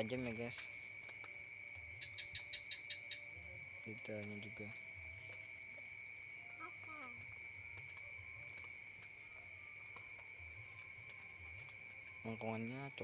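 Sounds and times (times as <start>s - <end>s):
insects trilling: 0.0s - 13.0s
pulsing insect chirp: 0.0s - 13.0s.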